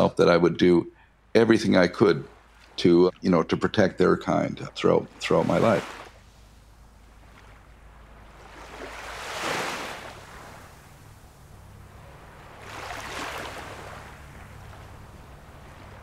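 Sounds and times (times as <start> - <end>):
faint low hum: 0.0 - 16.0
ocean waves washing in: 1.2 - 3.2, 4.0 - 16.0.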